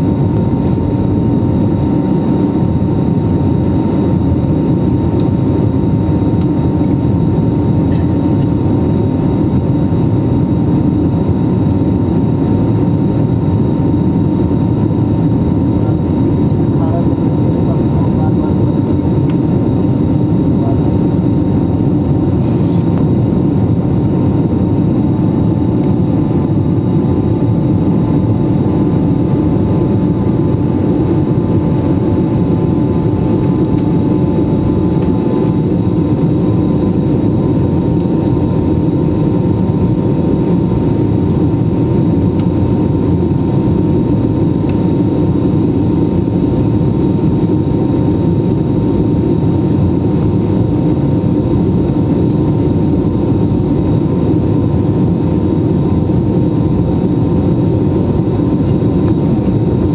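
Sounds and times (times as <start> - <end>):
jet engine roar in cabin: 0.0 - 59.9
thin steady whines: 0.0 - 59.9.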